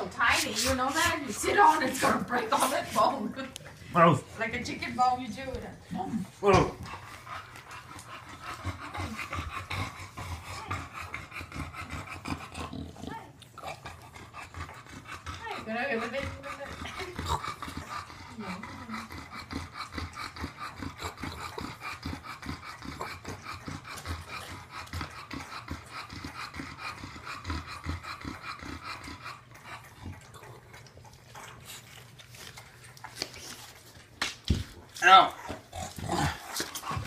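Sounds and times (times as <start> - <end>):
puppy breathing fast: 0.0 - 33.7.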